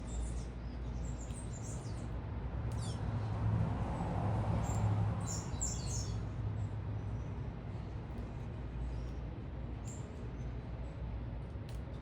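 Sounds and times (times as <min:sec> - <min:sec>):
small birds chirping: 0:00.0 - 0:03.2, 0:04.6 - 0:11.3
city traffic rumble: 0:00.0 - 0:12.0.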